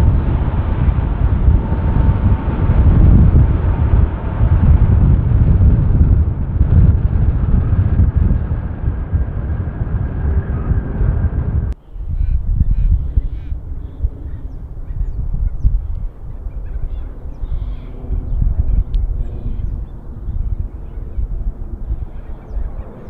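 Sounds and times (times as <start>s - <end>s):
jet engine whine: 0.0s - 23.0s
jet engines rumbling: 0.0s - 23.0s.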